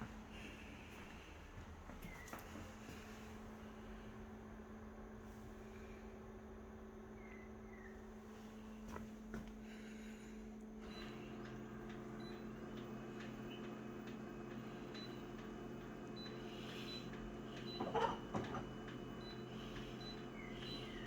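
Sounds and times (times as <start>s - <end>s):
small machine humming: 0.0s - 21.0s.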